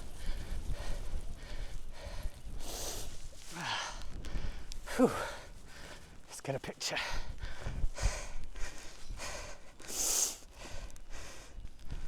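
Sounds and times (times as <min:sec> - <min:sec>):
person breathing hard: 0:00.0 - 0:06.2, 0:07.0 - 0:12.0.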